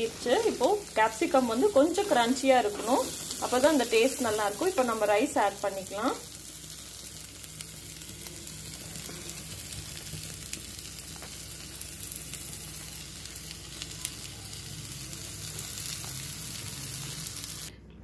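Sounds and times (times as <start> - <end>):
vegetables sizzling in hot oil: 0.0 - 17.7.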